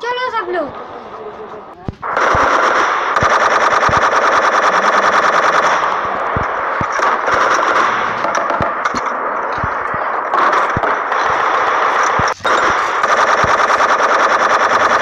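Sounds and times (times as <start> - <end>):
machine-gun fire: 1.9 - 15.0.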